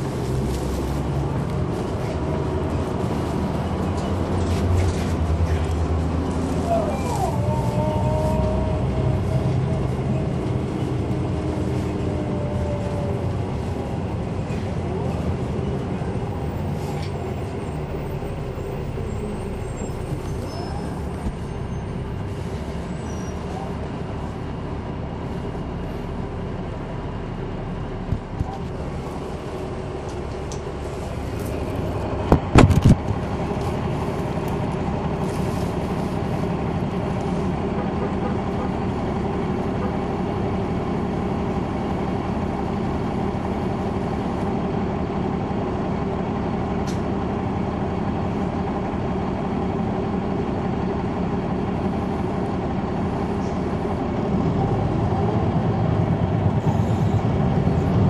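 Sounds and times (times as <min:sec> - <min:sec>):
bus diesel engine humming: 0:00.0 - 0:58.0.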